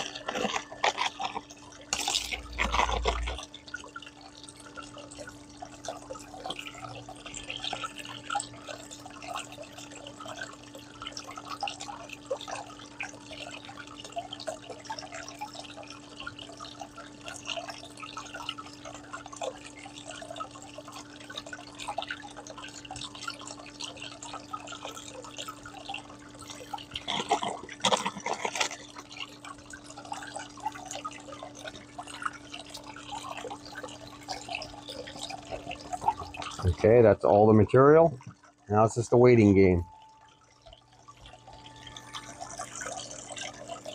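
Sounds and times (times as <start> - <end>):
pump humming: 0.0 - 43.9.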